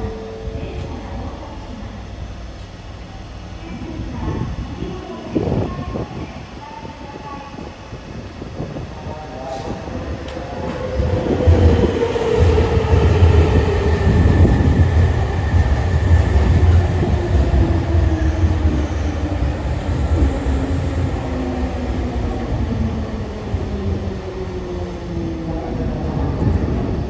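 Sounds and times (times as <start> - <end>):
low rumble of train wheels: 0.0 - 27.0.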